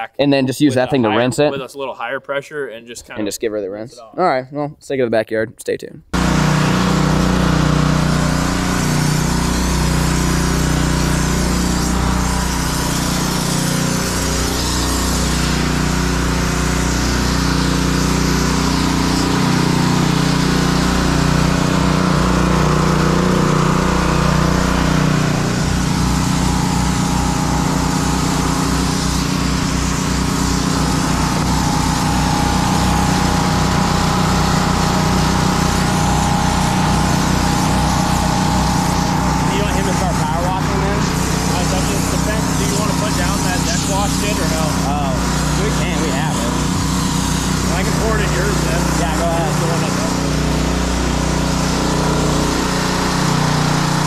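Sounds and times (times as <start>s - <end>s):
pressure washer engine droning: 6.2s - 54.0s
water spray hissing on wood: 6.2s - 54.0s.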